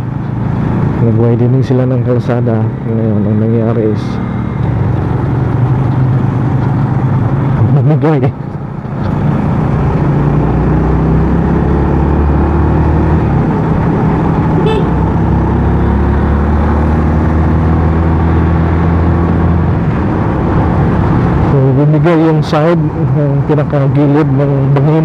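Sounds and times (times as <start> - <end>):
motorcycle engine cruising: 0.0 - 25.0
road and wind noise: 0.0 - 25.0.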